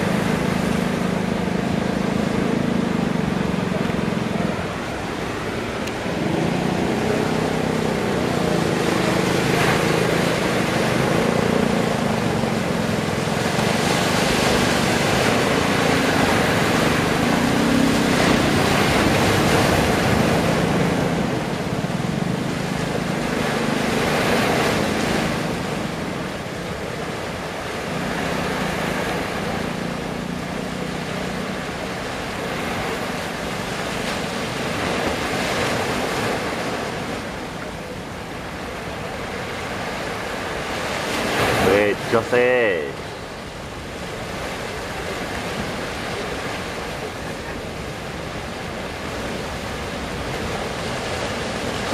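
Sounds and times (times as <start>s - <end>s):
boat engine drone: 0.0s - 51.9s
heavy surf breaking: 0.0s - 51.9s.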